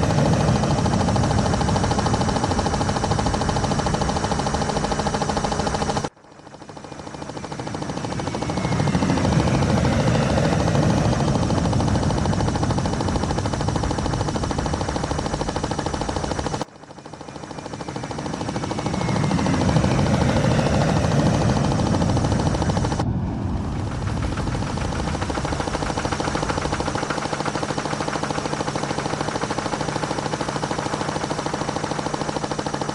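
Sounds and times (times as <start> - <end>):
rapid mechanical rattle: 0.0 - 32.9.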